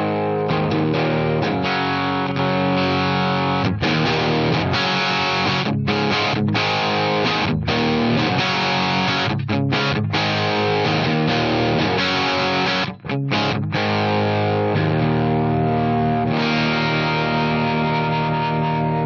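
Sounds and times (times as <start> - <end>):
overdriven electric guitar chords: 0.0 - 19.0.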